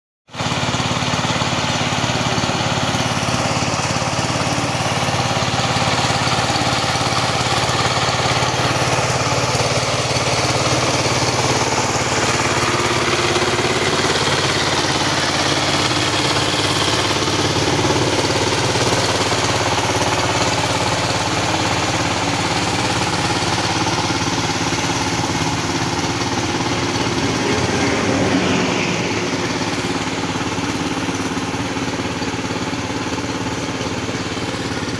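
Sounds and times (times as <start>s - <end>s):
tilling machine engine running: 0.3s - 34.9s.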